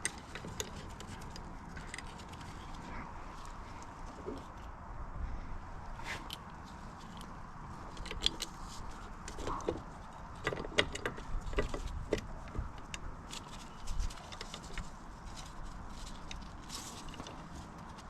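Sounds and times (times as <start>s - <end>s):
metal engine parts clicking: 0.0s - 4.8s, 6.2s - 18.0s.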